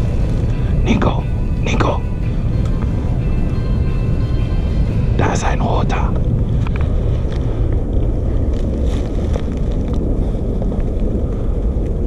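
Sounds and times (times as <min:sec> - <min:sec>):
dry leaves and twigs rustling: 0:00.0 - 0:12.0
wind buffeting microphone: 0:00.0 - 0:12.0.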